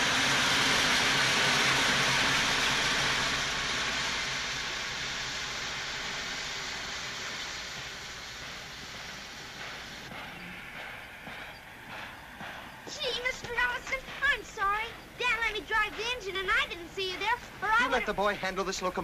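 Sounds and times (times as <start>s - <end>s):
steam hissing from valve: 0.0s - 19.0s.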